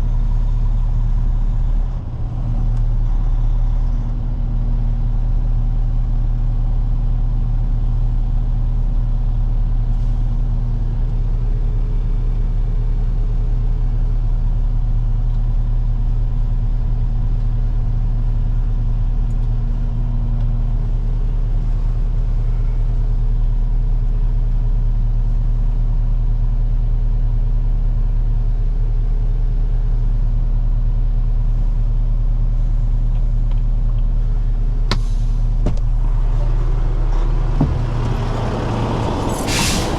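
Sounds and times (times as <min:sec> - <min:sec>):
truck diesel engine droning: 0:00.0 - 0:26.9, 0:29.6 - 0:39.9.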